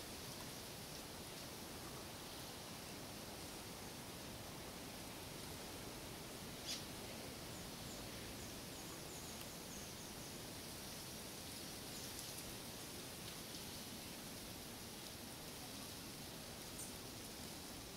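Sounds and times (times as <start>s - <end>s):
outdoor hiss: 0.0s - 17.9s.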